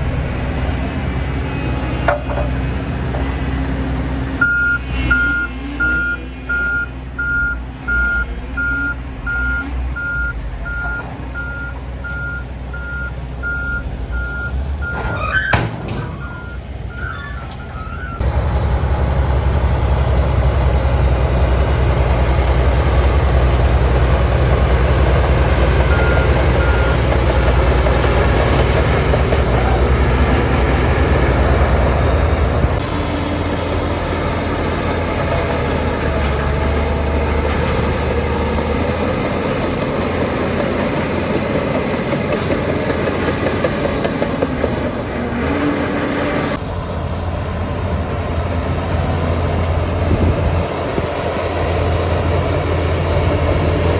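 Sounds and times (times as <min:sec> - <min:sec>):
heavy diesel machinery rumbling: 0:00.0 - 0:53.9.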